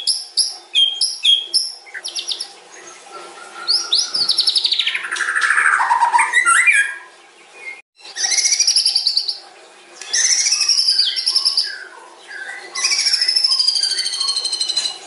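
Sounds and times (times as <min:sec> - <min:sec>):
bird singing stuttering phrases: 0:00.0 - 0:15.0.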